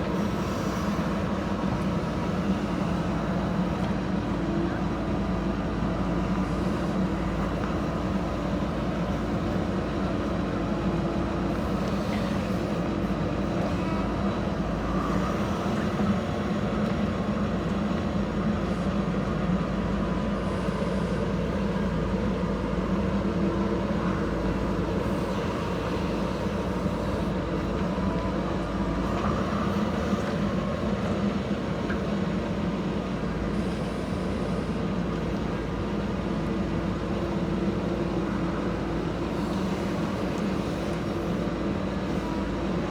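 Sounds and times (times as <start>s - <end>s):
diesel engine running steadily: 0.0s - 42.9s.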